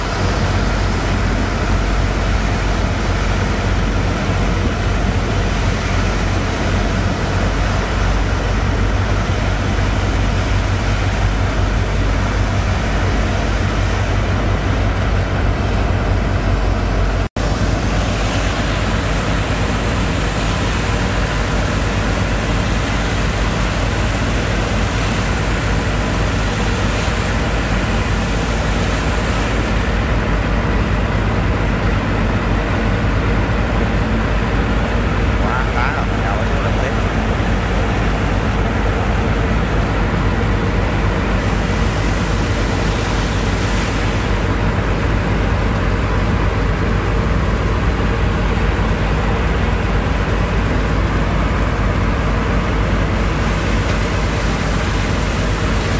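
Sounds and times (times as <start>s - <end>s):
boat engine running under load: 0.0s - 55.9s.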